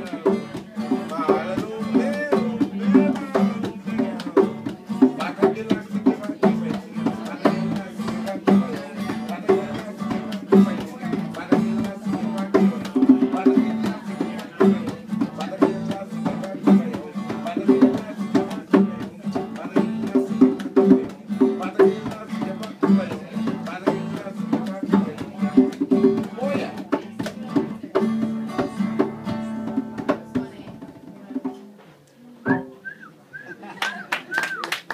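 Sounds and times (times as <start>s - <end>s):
acoustic guitar: 0.0s - 33.6s.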